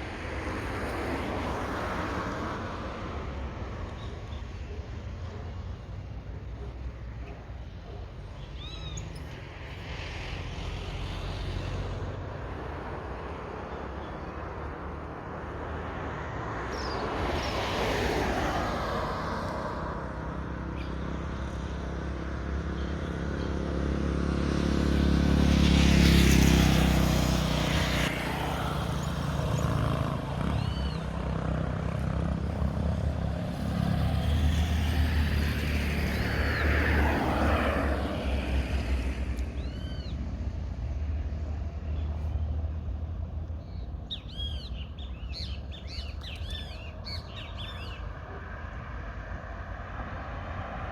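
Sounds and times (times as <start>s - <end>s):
low traffic rumble: 0.0s - 50.9s
vehicles passing: 0.0s - 50.9s.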